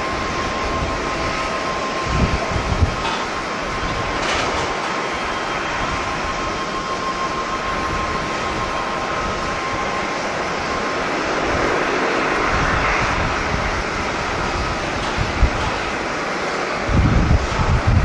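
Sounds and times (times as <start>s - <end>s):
faint high whine: 0.0s - 16.2s
turboprop engine and propeller noise: 0.0s - 18.0s
wind buffeting microphone: 0.0s - 18.0s.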